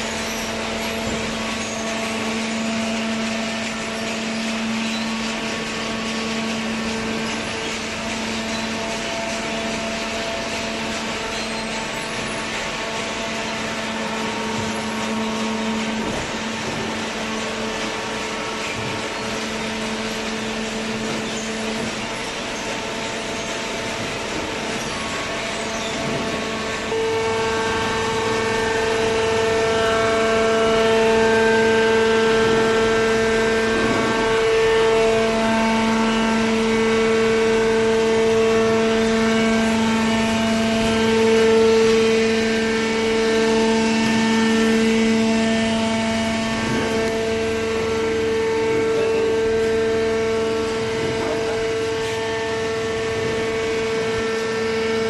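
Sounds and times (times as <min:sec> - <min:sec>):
machine hum with whining tones: 0:00.0 - 0:55.0.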